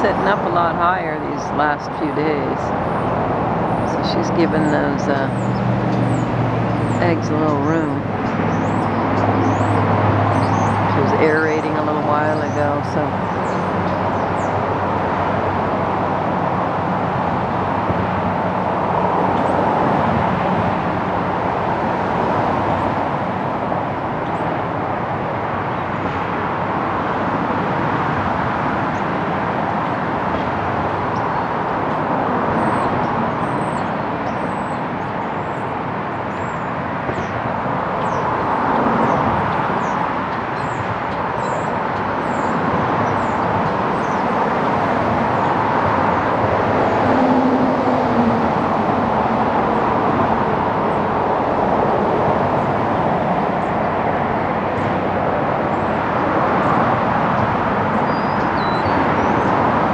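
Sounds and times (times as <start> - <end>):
distant road traffic roar: 0.0 - 59.9.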